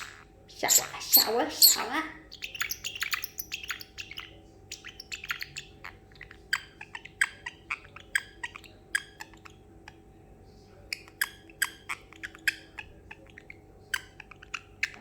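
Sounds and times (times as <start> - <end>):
parrotlet clicking chirps: 0.8 - 10.0, 10.9 - 15.0.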